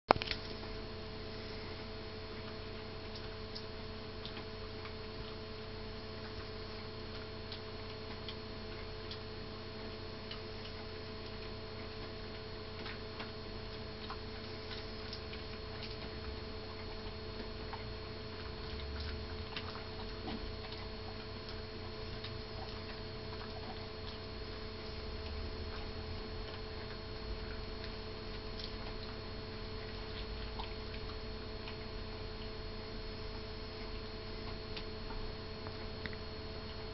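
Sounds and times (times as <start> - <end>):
steady electrical hum: 0.1 - 36.9
teeth clicking on a chew: 2.4 - 32.9, 33.8 - 36.9.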